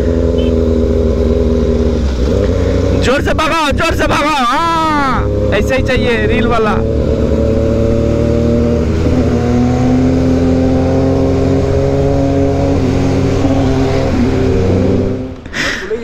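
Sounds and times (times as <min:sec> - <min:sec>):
motorcycle engine accelerating: 0:00.0 - 0:15.5.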